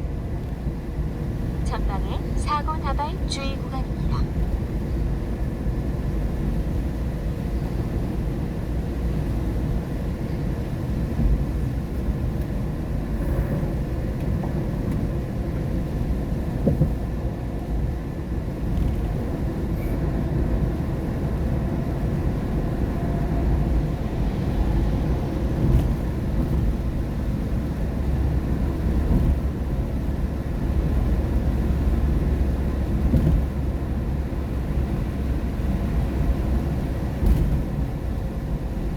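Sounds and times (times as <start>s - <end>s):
car road rumble on wet road: 5.6s - 38.9s.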